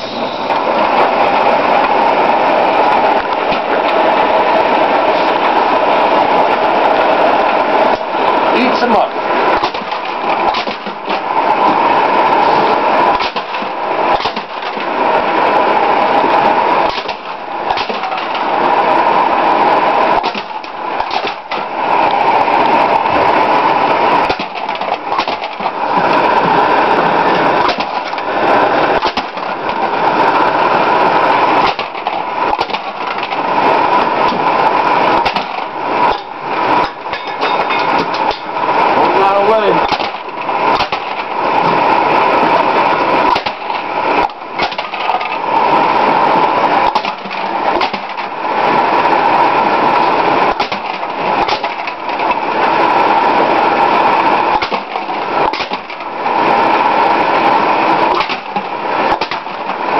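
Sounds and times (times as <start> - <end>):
can crusher mechanical clatter: 7.9 - 59.9.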